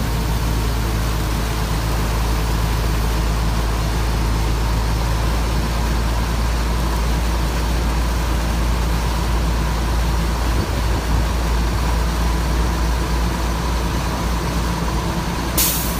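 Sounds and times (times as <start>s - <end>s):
road and wind noise: 0.0s - 15.9s
vehicle engine rumble: 0.0s - 15.9s.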